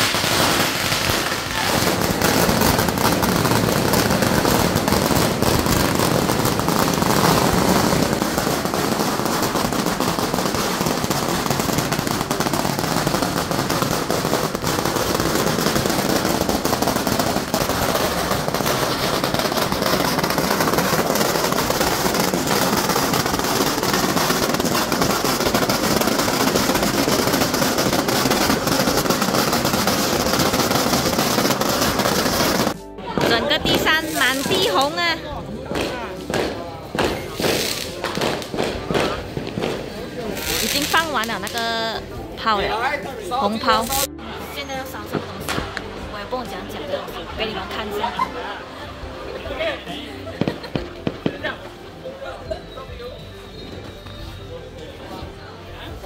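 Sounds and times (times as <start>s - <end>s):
firecrackers crackling: 0.0s - 56.0s.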